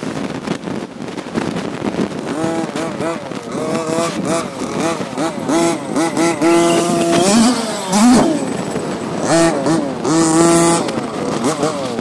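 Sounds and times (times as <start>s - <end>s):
two-stroke engine revving: 2.2s - 12.0s.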